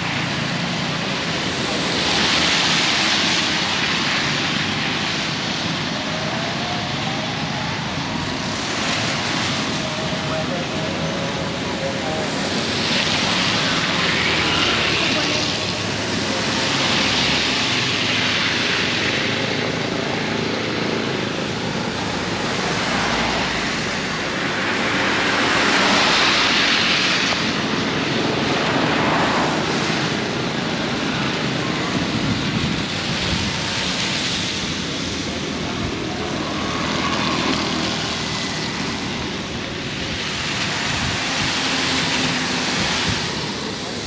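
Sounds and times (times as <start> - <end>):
heavy rain pouring: 0.0 - 44.0
strong gusting wind: 0.0 - 44.0.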